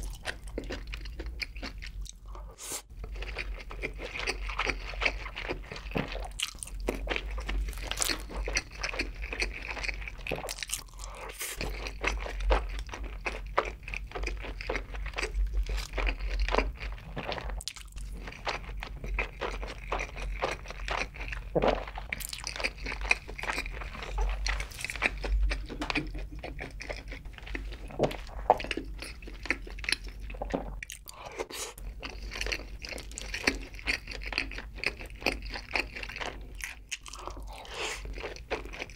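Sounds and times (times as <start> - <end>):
person chewing with crunches: 0.0 - 38.9.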